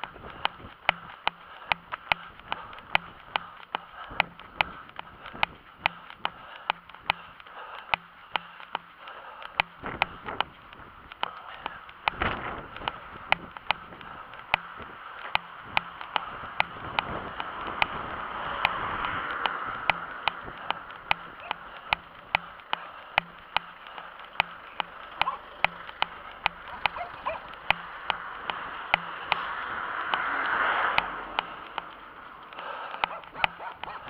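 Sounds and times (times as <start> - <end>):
footsteps running on asphalt: 0.0 - 34.0
passing car tyre noise: 0.0 - 34.0.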